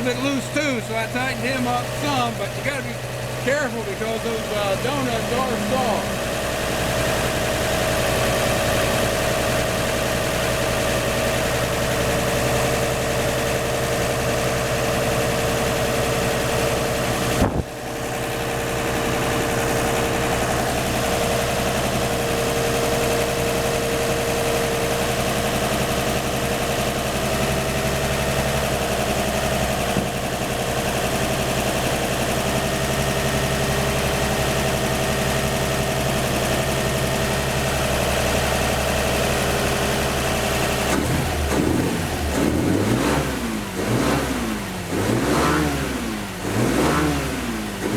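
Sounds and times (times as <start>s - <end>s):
car engine idling: 0.0s - 45.4s.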